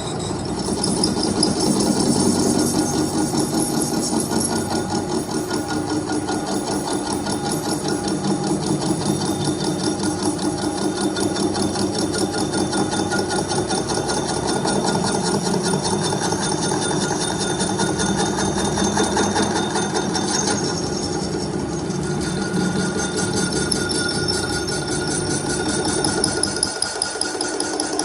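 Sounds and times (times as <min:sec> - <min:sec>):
machine hum: 0:00.0 - 0:28.0
machine clattering: 0:00.6 - 0:28.0.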